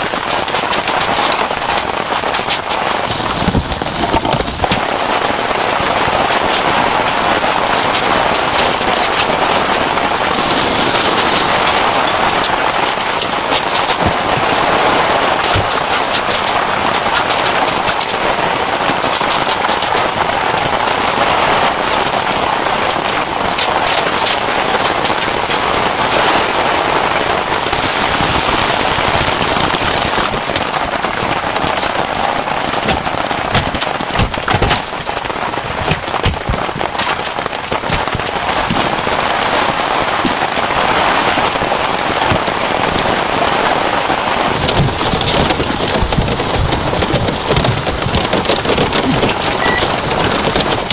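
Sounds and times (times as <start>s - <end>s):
heavy rain: 0.0s - 50.9s
sharp raindrop hits: 0.0s - 50.9s.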